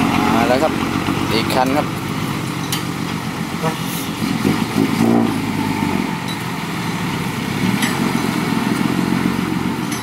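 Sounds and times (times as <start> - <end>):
dump truck driving over dirt: 0.0 - 10.0.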